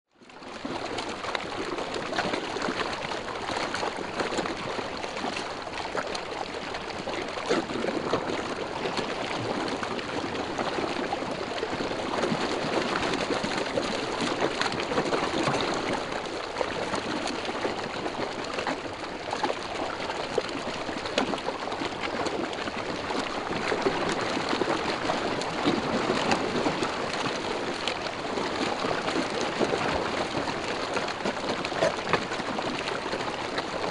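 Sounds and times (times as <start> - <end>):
water rushing: 0.4 - 33.9.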